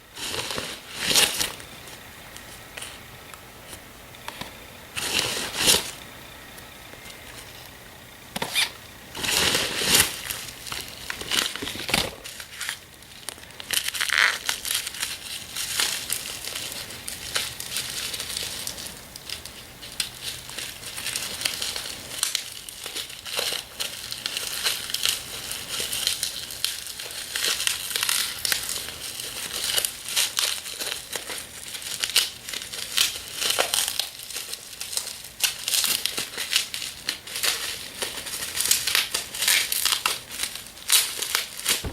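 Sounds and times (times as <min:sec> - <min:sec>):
packaging crinkling: 0:04.3 - 0:41.9.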